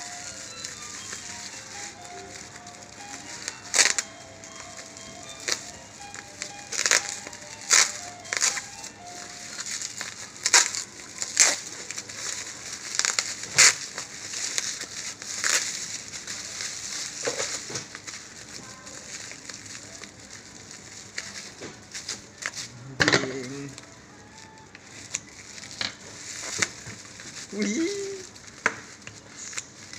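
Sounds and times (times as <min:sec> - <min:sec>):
bubble wrap crinkling: 0:00.0 - 0:29.9
bubble wrap snapping: 0:00.0 - 0:29.9.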